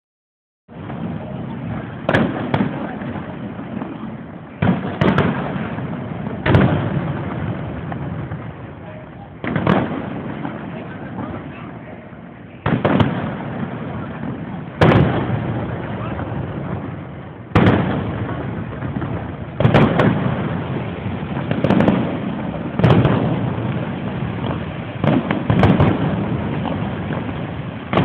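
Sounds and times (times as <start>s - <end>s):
fireworks booming: 0.7s - 28.0s.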